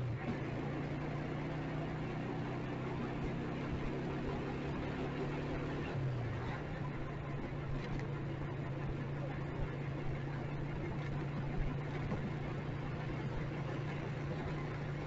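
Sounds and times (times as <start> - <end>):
motorcycle engine running: 0.0 - 15.0
street traffic noise: 0.0 - 15.0.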